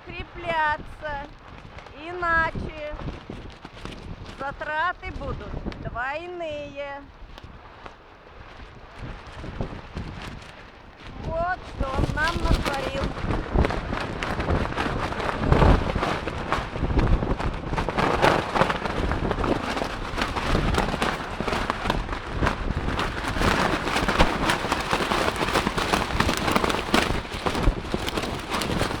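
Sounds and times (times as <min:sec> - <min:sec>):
crackle and rattle: 0:00.0 - 0:29.0
wind buffeting microphone: 0:00.0 - 0:29.0.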